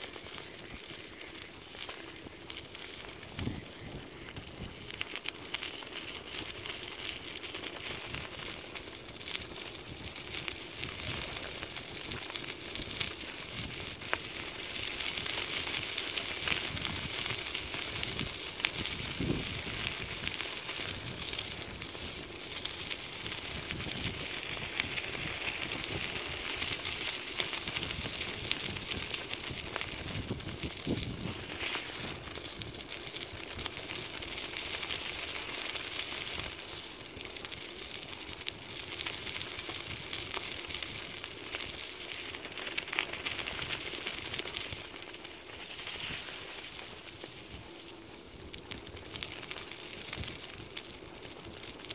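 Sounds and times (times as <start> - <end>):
wheels rolling over gravel: 0.0 - 51.9.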